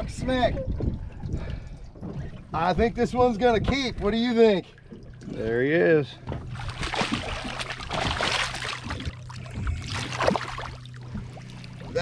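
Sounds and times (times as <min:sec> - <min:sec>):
steady low hum: 0:00.0 - 0:12.0
water splashing against hull: 0:00.0 - 0:12.0.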